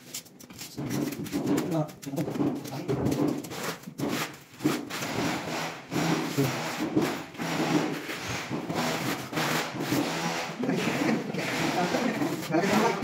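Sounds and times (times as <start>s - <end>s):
trowel scraping adhesive on wall: 0.0s - 13.0s.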